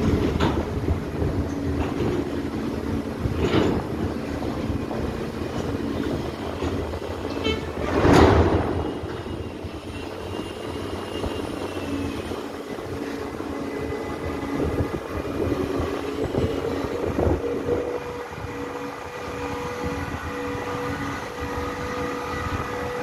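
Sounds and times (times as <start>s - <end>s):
crane hoist hum and whine: 0.0s - 23.0s.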